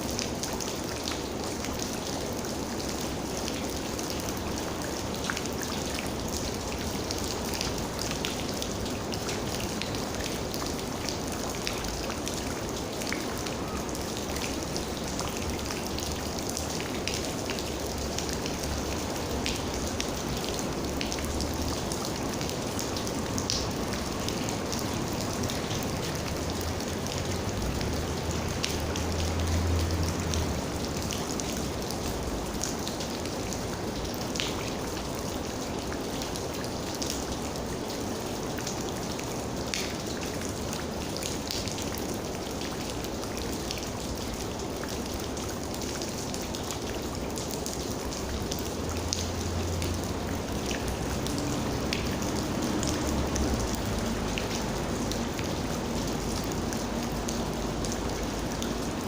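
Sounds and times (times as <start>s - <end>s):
rain drops ticking: 0.0s - 59.0s.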